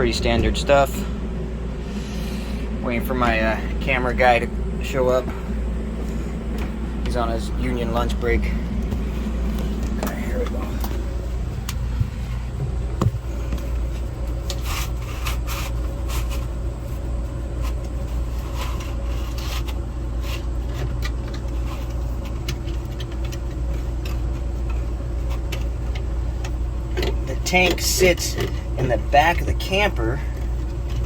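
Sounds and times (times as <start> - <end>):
steady low rumble: 0.0 - 31.0
drain snake scraping and rattling: 0.8 - 31.0.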